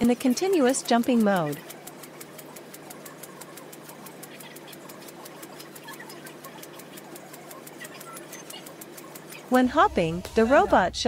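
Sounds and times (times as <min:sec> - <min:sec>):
fast even clatter of ticks: 0:00.0 - 0:10.1
drone motor hum: 0:00.0 - 0:11.0.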